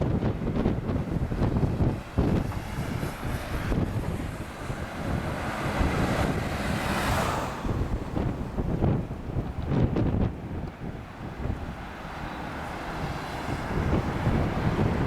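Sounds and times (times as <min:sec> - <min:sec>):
airliner jet engines: 0:00.0 - 0:15.0
wind buffeting microphone: 0:00.0 - 0:15.0.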